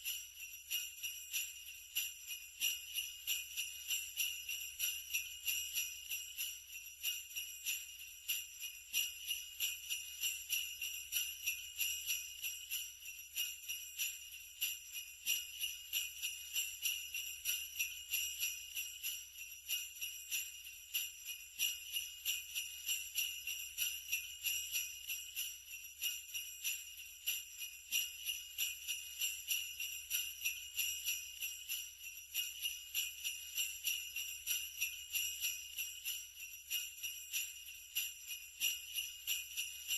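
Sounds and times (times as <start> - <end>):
sleigh bells jingling: 0.0 - 39.9.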